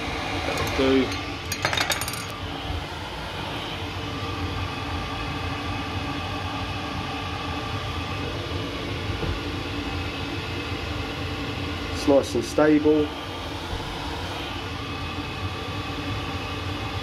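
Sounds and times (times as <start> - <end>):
boiler fan and burner rushing: 0.0 - 17.0
steady hum tones: 0.0 - 17.0.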